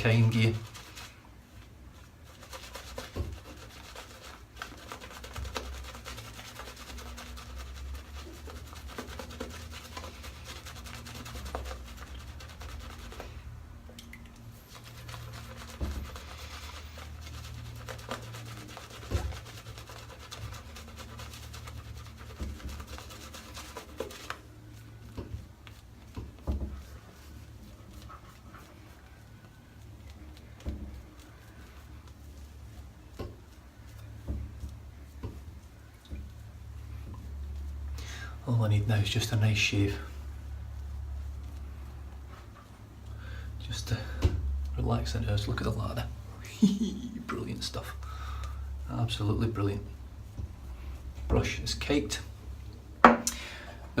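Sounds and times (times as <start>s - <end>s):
shaving brush scrubbing lather: 0.0s - 52.4s.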